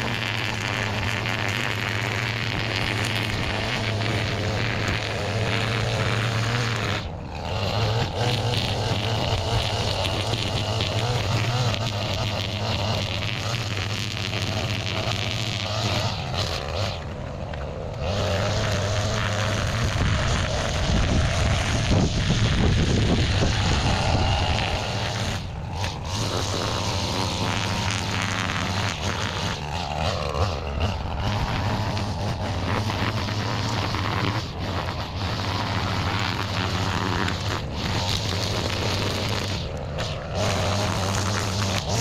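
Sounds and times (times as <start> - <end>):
weed trimmer engine running: 0.0 - 42.0.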